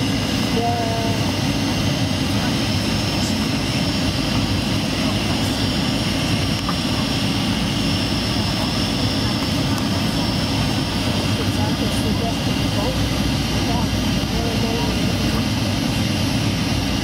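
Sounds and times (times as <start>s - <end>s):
engine and airflow roar: 0.0s - 17.0s.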